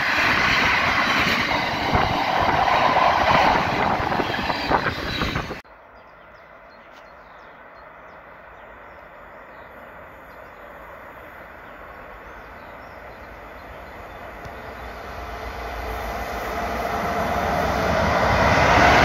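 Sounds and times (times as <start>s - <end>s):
faint low train rumble: 0.0s - 19.0s.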